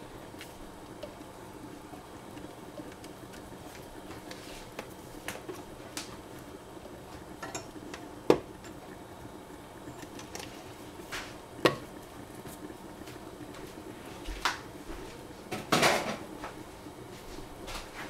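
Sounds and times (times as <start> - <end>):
low steady background noise: 0.0 - 18.0.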